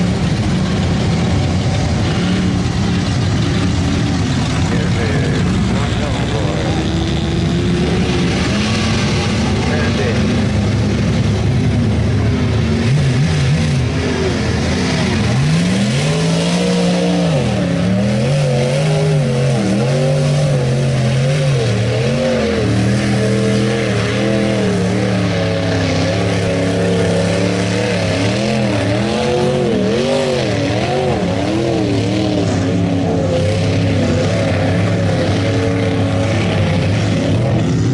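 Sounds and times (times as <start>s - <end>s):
pickup engine revving hard: 0.0s - 37.9s.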